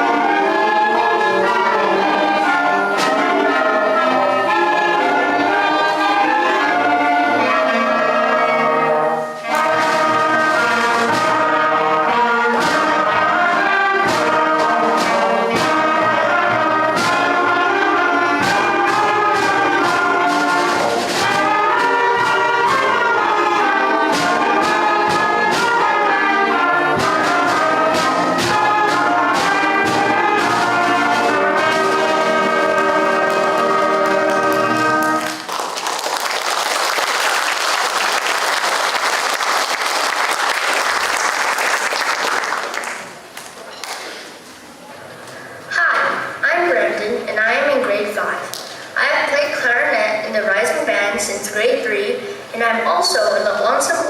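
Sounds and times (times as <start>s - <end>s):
school concert band playing: 0.0s - 54.0s.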